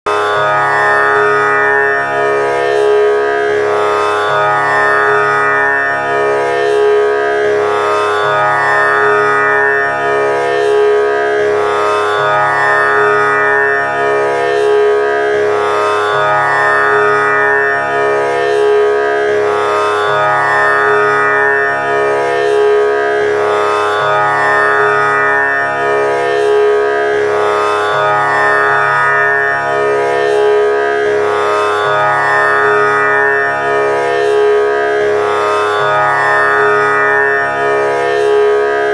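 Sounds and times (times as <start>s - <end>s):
steady drone: 0.1s - 38.9s.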